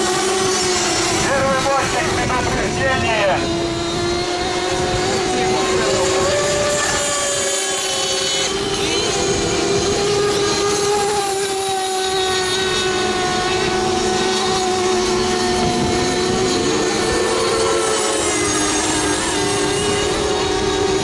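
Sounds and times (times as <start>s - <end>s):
model boat engines whining: 0.0s - 21.0s.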